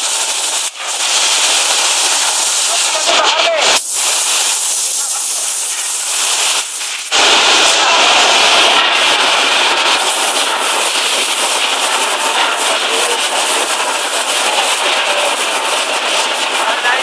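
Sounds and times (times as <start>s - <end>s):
loud hissing machine: 0.0s - 17.0s.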